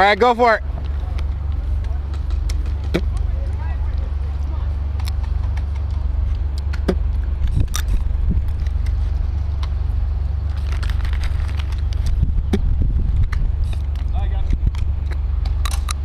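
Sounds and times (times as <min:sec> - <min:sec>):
loud steady low rumble: 0:00.0 - 0:16.0.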